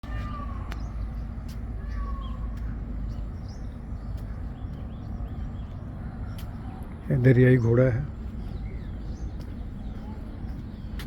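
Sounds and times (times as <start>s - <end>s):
low outdoor rumble: 0.0s - 11.0s
bird chirps: 0.2s - 11.0s.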